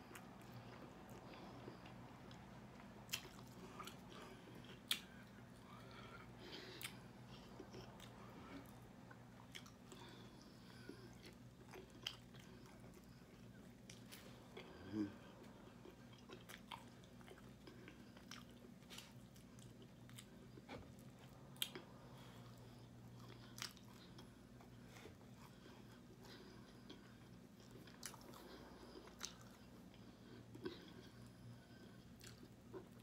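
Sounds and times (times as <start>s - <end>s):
chewing and crunching: 0.0s - 33.0s
faint low hum: 0.0s - 33.0s.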